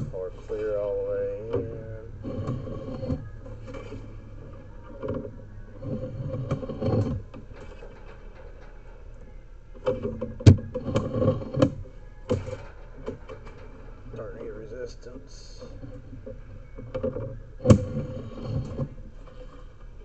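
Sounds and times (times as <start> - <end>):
cable and reel rattling: 0.0 - 20.0.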